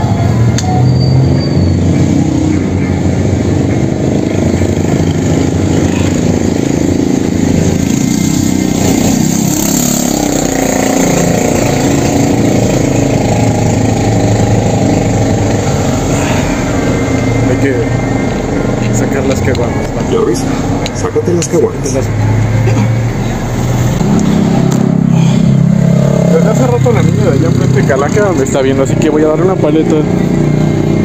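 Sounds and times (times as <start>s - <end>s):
vehicle engines running: 0.0s - 31.0s.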